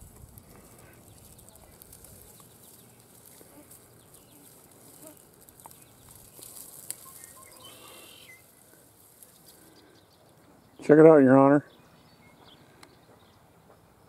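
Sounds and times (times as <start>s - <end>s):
rustling of dry leaves: 0.0s - 12.8s.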